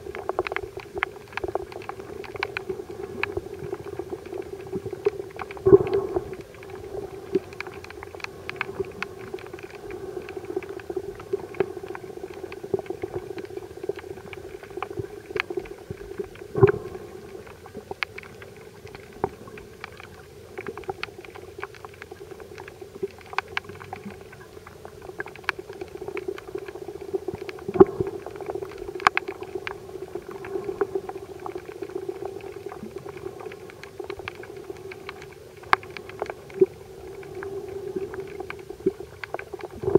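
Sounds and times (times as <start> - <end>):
underwater clicks and crackles: 0.0 - 39.9
underwater low hum: 0.0 - 39.9.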